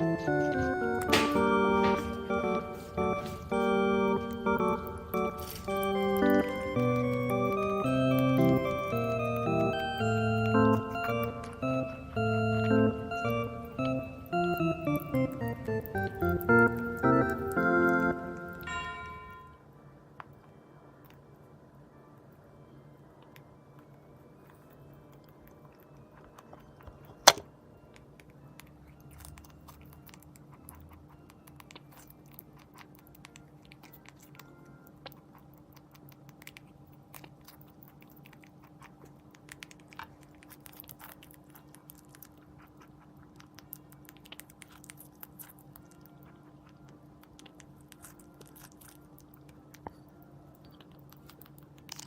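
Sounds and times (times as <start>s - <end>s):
rabbit chewing crunchy fruit: 0.0s - 19.4s, 20.1s - 52.0s
faint steady hum: 0.0s - 52.0s.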